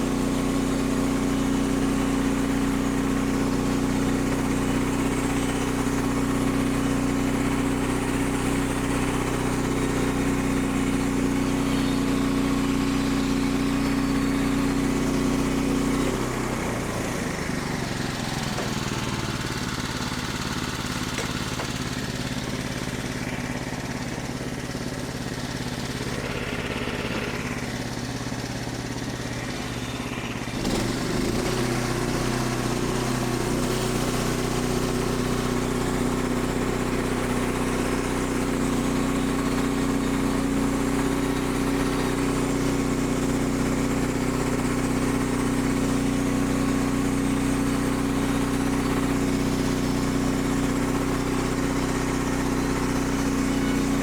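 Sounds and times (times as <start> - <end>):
sawmill gasoline engine running: 0.0 - 54.0.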